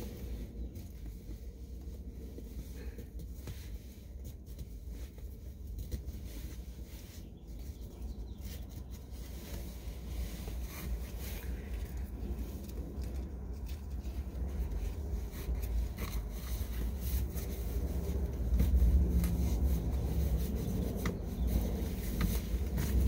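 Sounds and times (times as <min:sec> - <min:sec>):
fabric and straps rustling: 0:00.0 - 0:23.0
steady low rumble: 0:00.0 - 0:23.0.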